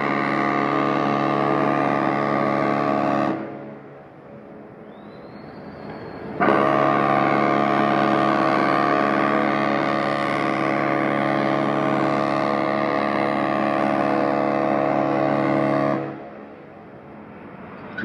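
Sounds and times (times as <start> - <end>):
ship horn blast: 0.0 - 4.2, 6.3 - 16.8.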